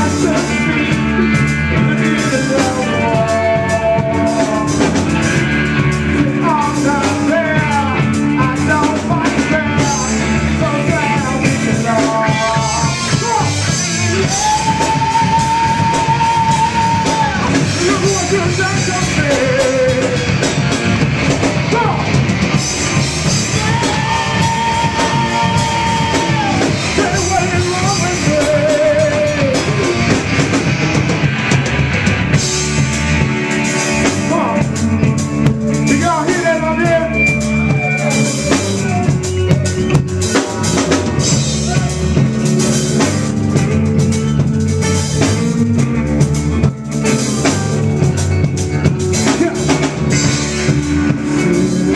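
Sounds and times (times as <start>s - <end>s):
man singing: 0.0s - 20.8s, 21.4s - 22.2s, 22.8s - 30.8s, 33.8s - 43.9s, 47.4s - 51.9s
live rock band playing: 0.0s - 51.9s.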